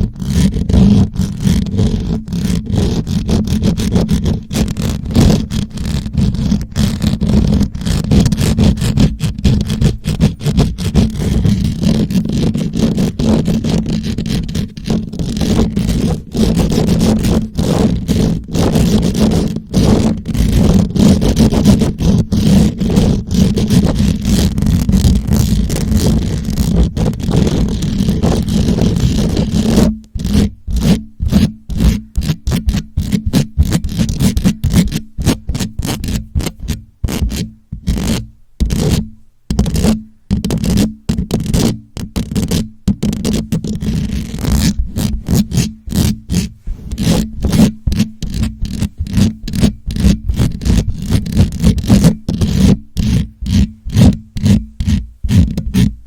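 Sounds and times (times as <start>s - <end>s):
fingers scratching on microphone: 0.0s - 56.0s.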